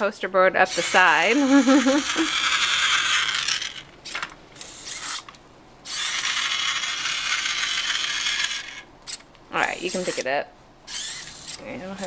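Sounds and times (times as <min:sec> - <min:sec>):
robot gear motors whirring: 0:00.7 - 0:09.2, 0:09.8 - 0:10.3, 0:10.9 - 0:11.6.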